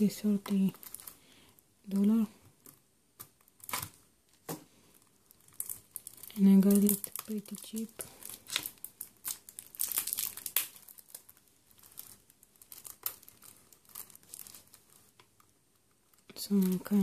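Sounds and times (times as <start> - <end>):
shrink-wrap crinkling: 0.0 - 17.0.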